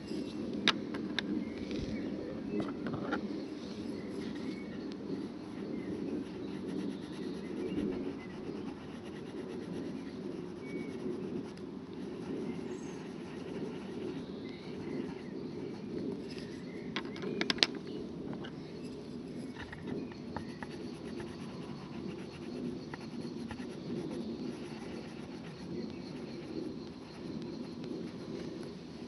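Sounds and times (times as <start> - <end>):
faint bird chirps: 1.3 - 29.0.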